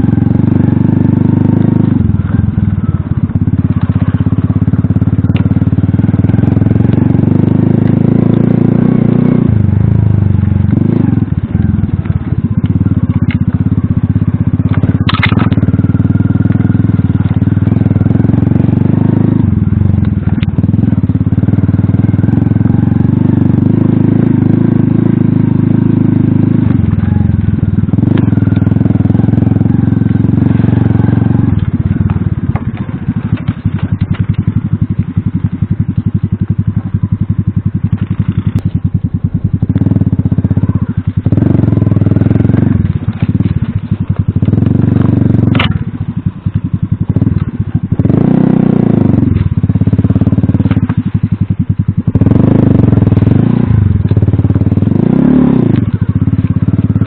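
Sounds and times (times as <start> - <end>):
moped engine revving: 0.0 - 57.0.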